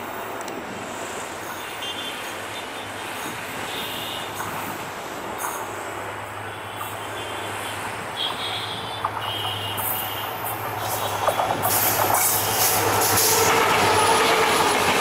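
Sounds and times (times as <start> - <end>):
rumbling rail noise: 0.0 - 15.0.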